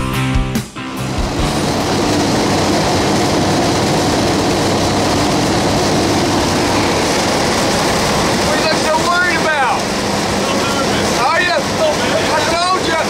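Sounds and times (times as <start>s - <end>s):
guitar music: 0.0s - 11.0s
aircraft engine drone: 0.9s - 13.0s.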